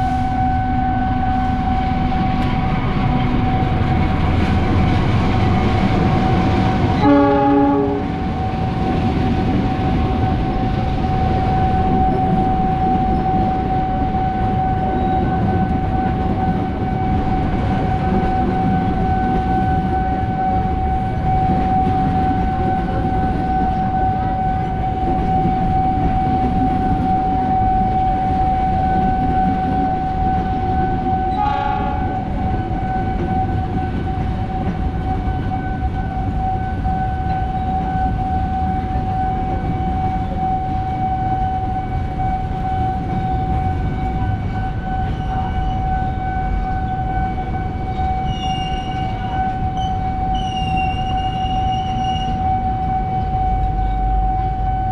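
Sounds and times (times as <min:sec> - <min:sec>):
train horn blasts: 0:00.0 - 0:04.6, 0:06.7 - 0:08.7, 0:11.3 - 0:54.9
train rumbling: 0:00.0 - 0:54.9.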